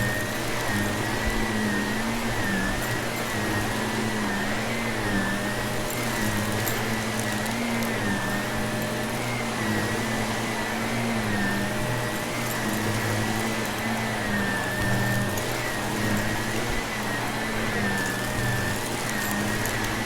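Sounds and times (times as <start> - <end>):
vacuum cleaner on carpet: 0.0 - 20.0.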